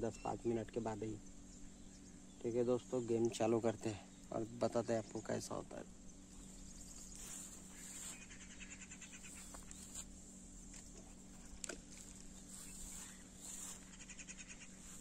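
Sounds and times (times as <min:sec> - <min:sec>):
faint insect chirping trills: 0:00.0 - 0:15.0.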